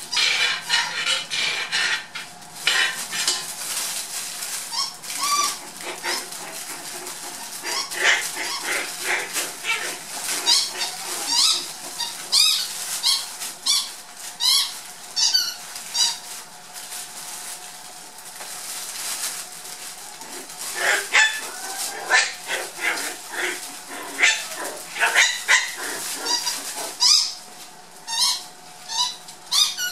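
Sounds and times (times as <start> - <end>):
puppies yipping: 0.1 - 3.4, 4.7 - 16.2, 20.0 - 29.9.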